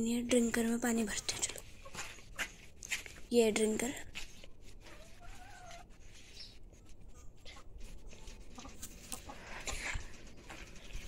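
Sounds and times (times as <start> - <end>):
faint clicks and scuffs: 1.2 - 11.0.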